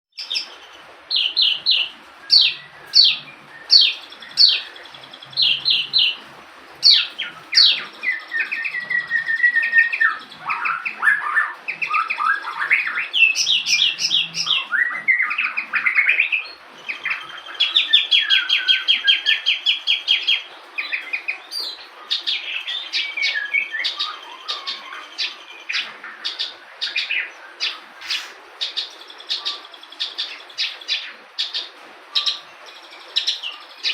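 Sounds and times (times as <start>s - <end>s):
bird singing varied song: 0.1s - 33.9s.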